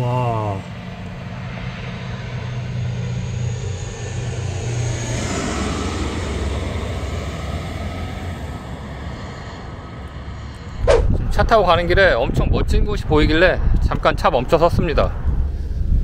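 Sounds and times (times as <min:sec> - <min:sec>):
propeller aircraft flying overhead: 0:00.0 - 0:13.7
turbine whine: 0:00.0 - 0:13.7.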